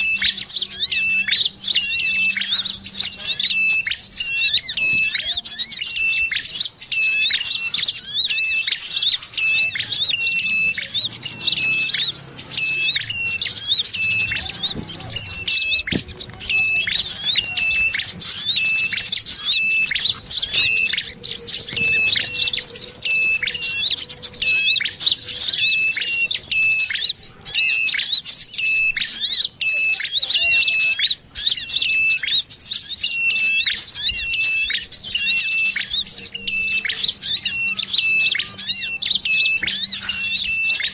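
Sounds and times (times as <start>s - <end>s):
bird calls: 0.0s - 40.9s
scolding bird chatter: 0.0s - 40.9s.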